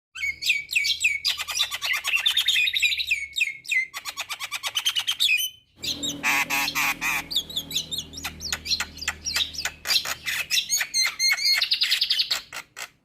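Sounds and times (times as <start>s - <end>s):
bird singing: 0.2s - 13.0s.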